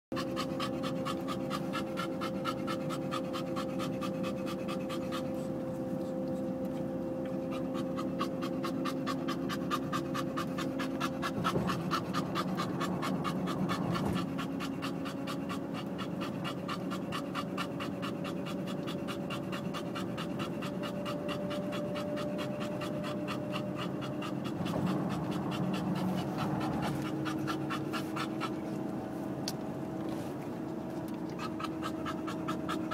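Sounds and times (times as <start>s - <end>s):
dog panting: 0.1s - 32.9s
car interior hum: 0.6s - 32.9s.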